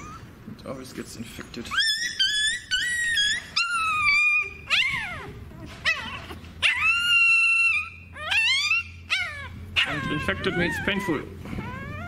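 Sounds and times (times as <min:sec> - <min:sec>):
puppy whining and yelping: 0:00.0 - 0:00.4, 0:01.6 - 0:12.0.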